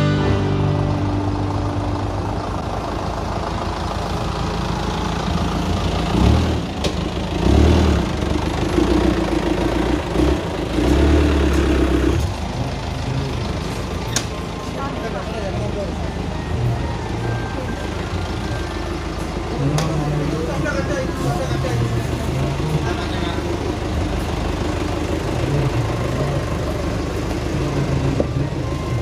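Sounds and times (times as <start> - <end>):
jeep engine running and revving: 0.0 - 29.0.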